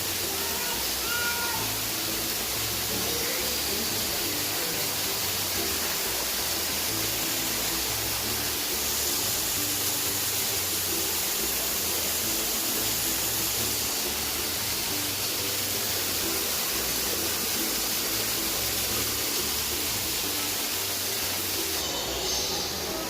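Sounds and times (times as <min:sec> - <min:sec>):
indoor waterfall rushing: 0:00.0 - 0:23.0.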